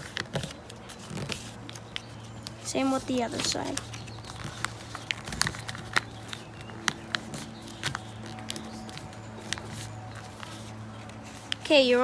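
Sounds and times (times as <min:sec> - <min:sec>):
paper being folded and creased: 0:00.0 - 0:12.0
steady low hum: 0:00.0 - 0:12.0.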